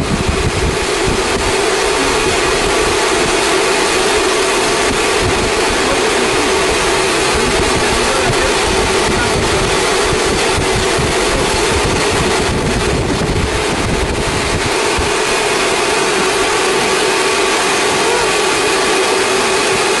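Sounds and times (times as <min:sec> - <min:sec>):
machine hiss and hum: 0:00.0 - 0:20.0.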